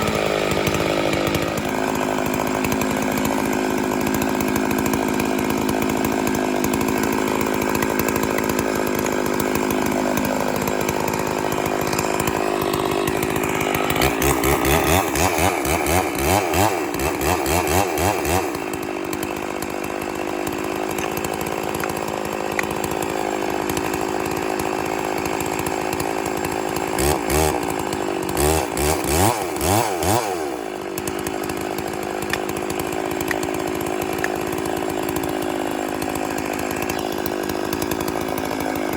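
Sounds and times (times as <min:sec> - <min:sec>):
chainsaw cutting into tree: 0:00.0 - 0:38.9.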